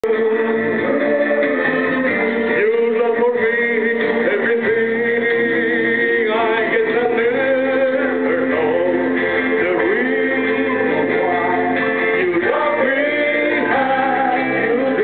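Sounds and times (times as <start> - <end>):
accompanying music: 0.0 - 15.0
man singing into microphone: 0.0 - 15.0.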